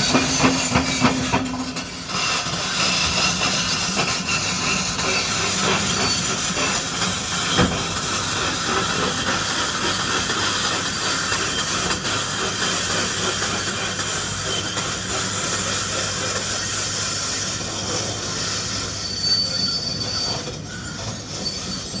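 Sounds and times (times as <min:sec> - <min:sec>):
excavator diesel engine running: 0:00.0 - 0:19.7.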